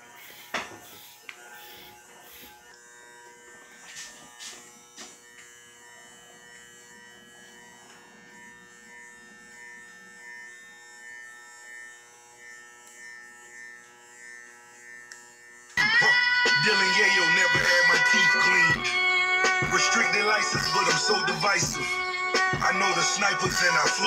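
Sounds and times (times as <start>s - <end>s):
electric hair clippers buzzing: 0.0s - 24.0s.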